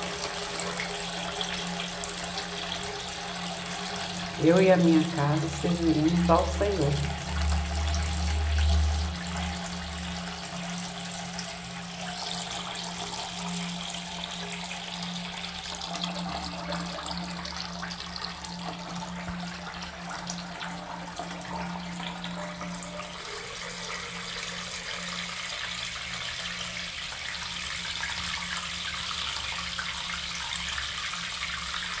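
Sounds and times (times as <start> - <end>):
low steady hum: 0.0 - 28.7.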